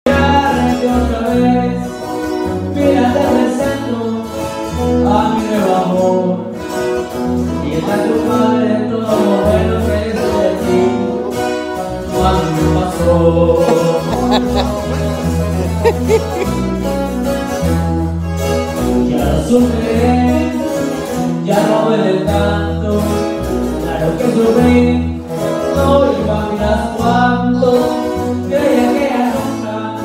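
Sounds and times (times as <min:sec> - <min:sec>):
acoustic guitars strumming: 0:00.1 - 0:30.0.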